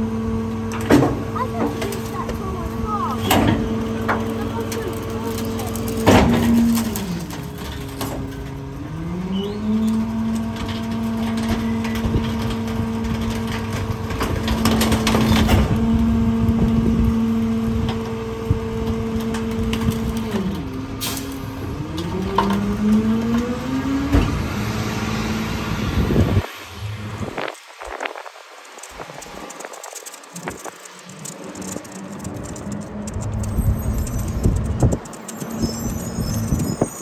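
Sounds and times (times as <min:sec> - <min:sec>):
truck engine revving: 0:00.0 - 0:36.9
hydraulic packer running: 0:00.0 - 0:37.0
debris cracking and crunching: 0:00.7 - 0:24.6, 0:27.0 - 0:37.0.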